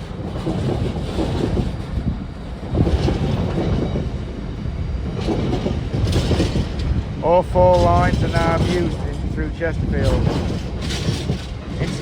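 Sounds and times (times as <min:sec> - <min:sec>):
freight train rumbling and clattering: 0:00.0 - 0:12.0
loud knocks of train: 0:00.0 - 0:12.0.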